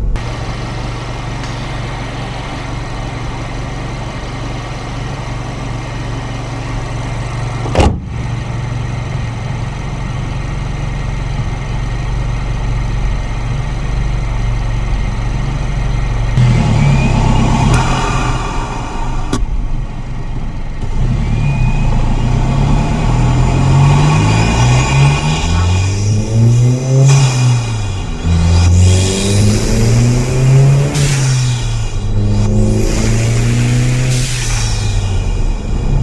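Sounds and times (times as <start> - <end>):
car engine running: 0.0 - 36.0
turbo whine: 0.0 - 36.0.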